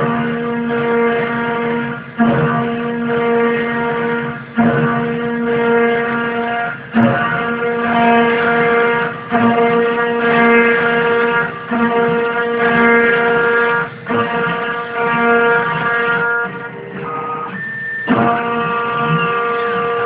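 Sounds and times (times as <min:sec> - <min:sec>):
router machine whine: 0:00.0 - 0:20.0.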